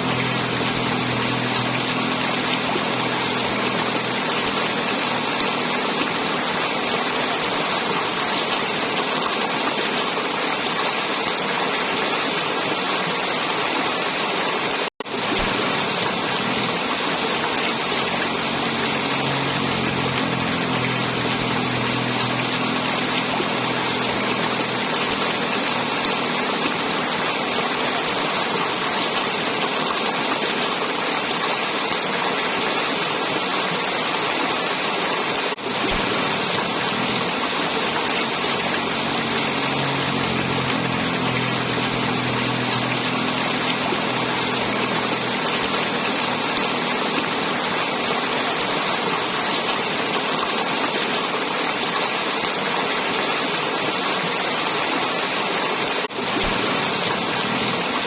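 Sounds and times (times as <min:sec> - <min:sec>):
river water gurgling: 0:00.0 - 0:58.0.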